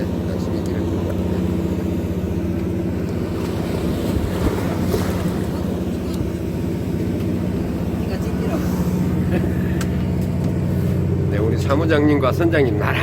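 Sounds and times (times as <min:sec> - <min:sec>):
sea noise: 0:00.0 - 0:11.4
boat engine humming: 0:00.0 - 0:13.0
wind: 0:00.0 - 0:13.0.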